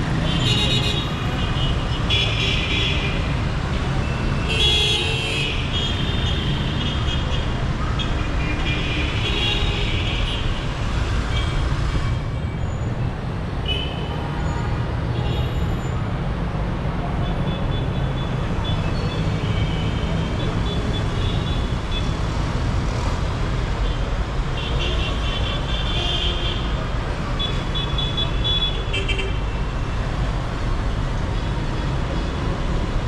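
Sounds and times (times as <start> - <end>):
traffic engines rumbling: 0.0 - 33.0.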